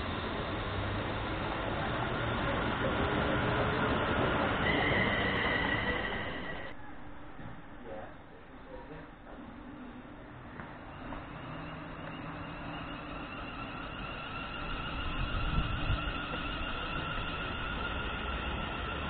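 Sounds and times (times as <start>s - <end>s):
electric train motors whining: 0.0s - 6.8s, 10.3s - 19.0s
low train rumble: 0.0s - 19.0s.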